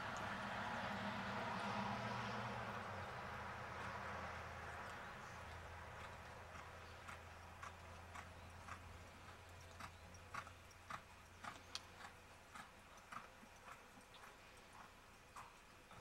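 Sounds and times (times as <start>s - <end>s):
horse hoofbeats on dirt: 2.7s - 16.0s.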